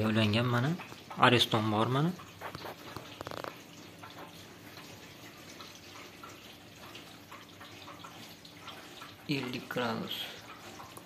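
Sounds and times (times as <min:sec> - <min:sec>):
trickle of running water: 0:00.0 - 0:11.0
water drips: 0:00.0 - 0:11.0.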